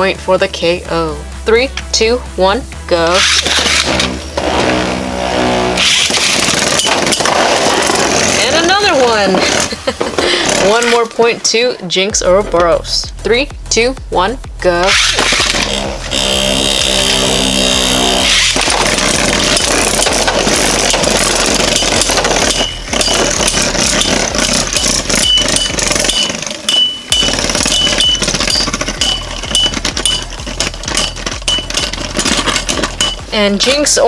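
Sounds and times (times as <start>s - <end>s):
whirring spinning top: 0.0s - 12.8s, 14.8s - 34.0s
spinning tops rattling and scraping: 2.6s - 13.1s, 14.9s - 34.0s
clicks of tops colliding: 3.0s - 11.4s, 14.8s - 34.0s.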